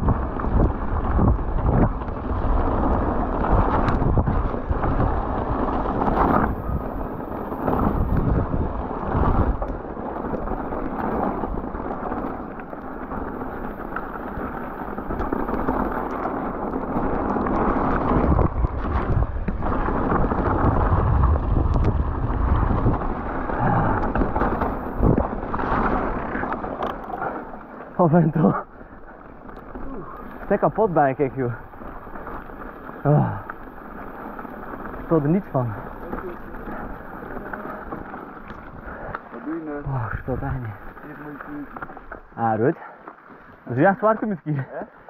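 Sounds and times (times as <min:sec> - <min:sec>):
wind rumble on microphone: 0:00.0 - 0:42.6.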